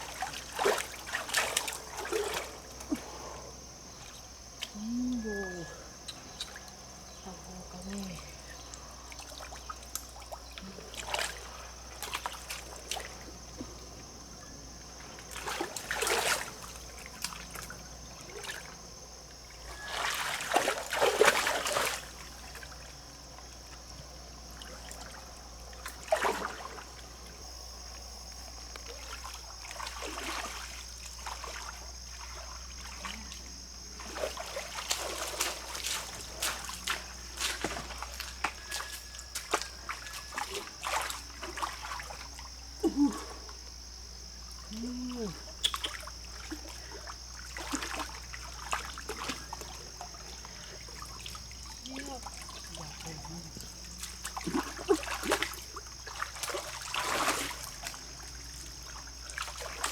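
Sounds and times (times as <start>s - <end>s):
water splashing and trickling: 0.0s - 59.9s.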